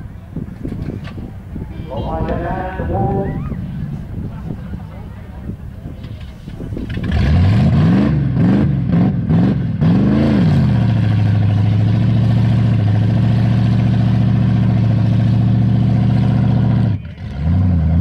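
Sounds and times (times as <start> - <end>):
car engine revving: 2.8 - 18.0.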